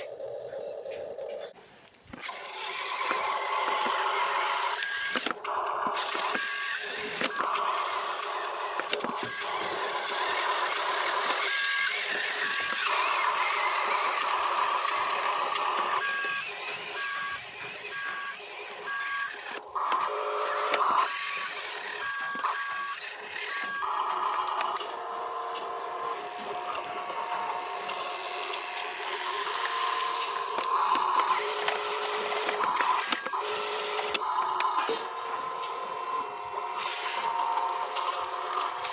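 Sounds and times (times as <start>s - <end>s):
toy motors whirring: 2.0s - 38.9s.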